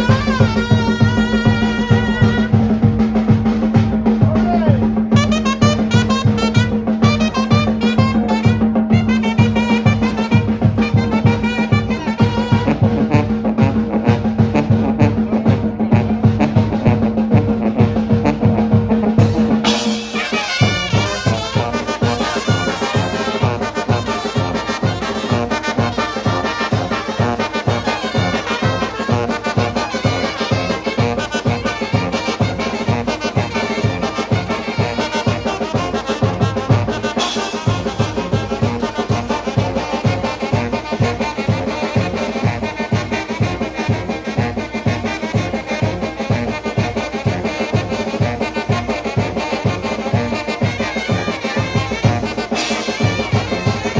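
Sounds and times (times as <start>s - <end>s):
steady drum beat: 0.0s - 53.9s
trumpets and trombones playing: 0.0s - 53.9s.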